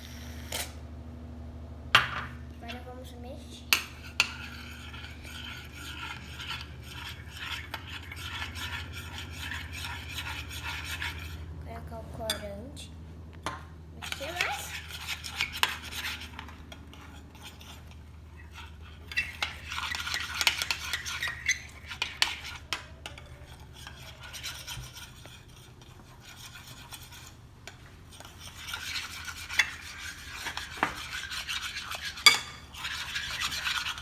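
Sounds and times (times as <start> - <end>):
spoon stirring and scraping slime: 2.6 - 12.5, 14.0 - 34.0.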